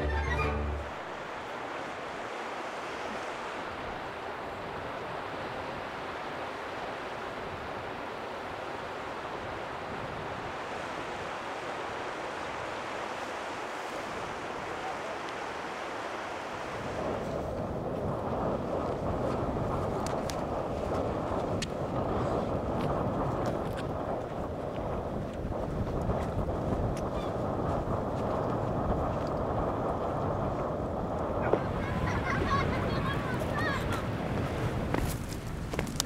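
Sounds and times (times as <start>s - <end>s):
sea surf on beach: 0.0s - 36.0s
wind: 0.0s - 36.0s.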